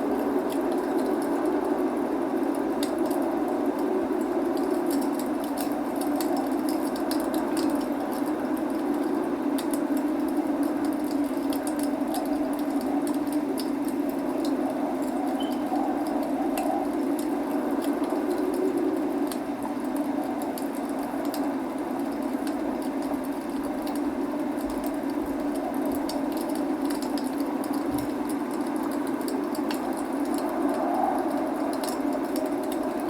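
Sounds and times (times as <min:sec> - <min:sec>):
rain rushing: 0:00.0 - 0:33.0
wood fire crackling and popping: 0:00.0 - 0:33.0.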